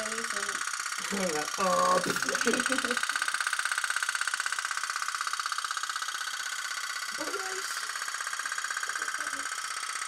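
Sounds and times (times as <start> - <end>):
toy boat motor buzzing: 0.0 - 10.0.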